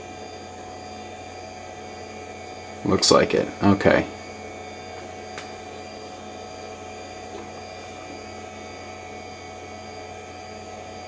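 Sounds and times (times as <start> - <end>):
computer electrical hum: 0.0 - 11.0.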